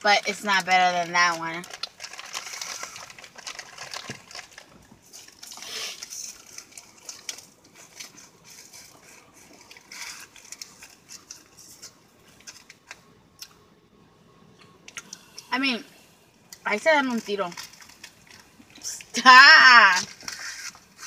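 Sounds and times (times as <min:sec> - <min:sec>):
plastic wrapper crinkling: 0:00.1 - 0:13.0, 0:16.6 - 0:21.0.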